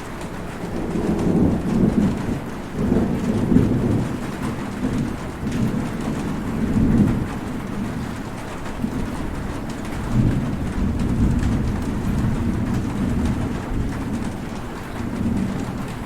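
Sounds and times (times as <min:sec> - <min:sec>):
heavy rain falling: 0:00.0 - 0:16.0
low rolling thunder: 0:00.0 - 0:16.0.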